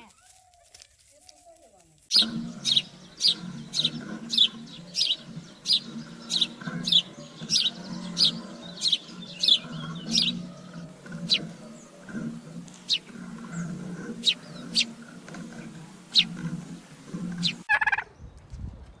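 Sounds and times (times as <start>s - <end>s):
steady low hum: 2.1s - 17.7s
bird chirping: 2.1s - 19.0s.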